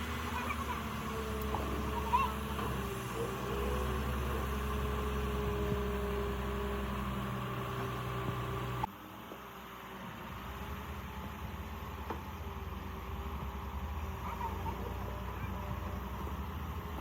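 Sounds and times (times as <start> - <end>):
large engine droning: 0.0 - 9.0, 10.1 - 17.0.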